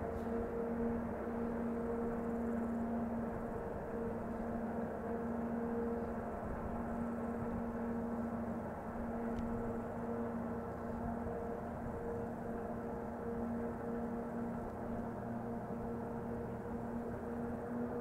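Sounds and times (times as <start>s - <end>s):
diesel locomotive drone: 0.0s - 18.0s
two-note hum: 0.0s - 18.0s.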